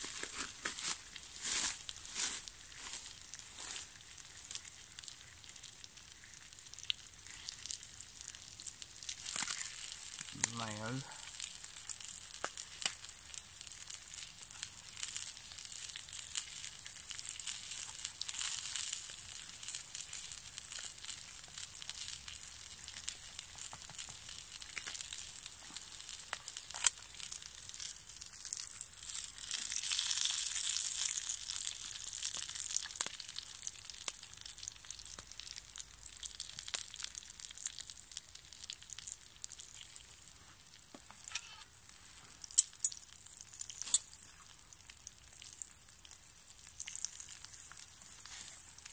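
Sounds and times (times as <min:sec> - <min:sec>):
meat sizzling in a pan: 0:00.0 - 0:48.9.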